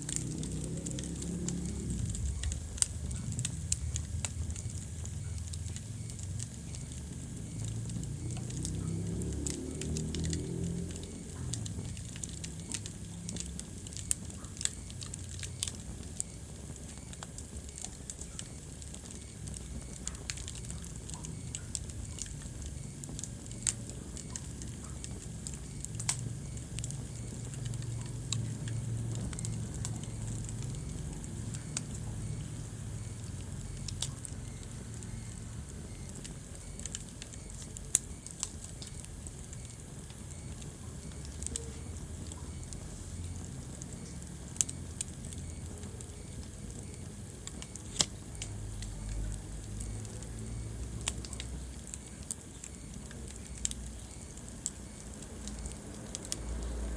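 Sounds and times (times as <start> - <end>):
low fire rumble: 0.0 - 56.9
wood fire crackling and popping: 0.0 - 56.9.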